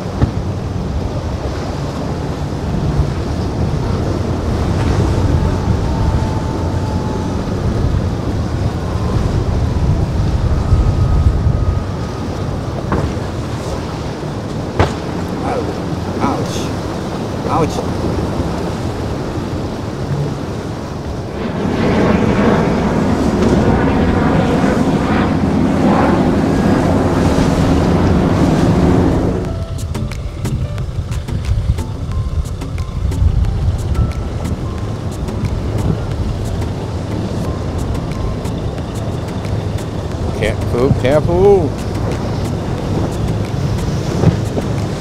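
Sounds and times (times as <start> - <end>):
engine drone: 0.0 - 45.0
water wash: 0.0 - 45.0
wind rumble on microphone: 0.0 - 45.0.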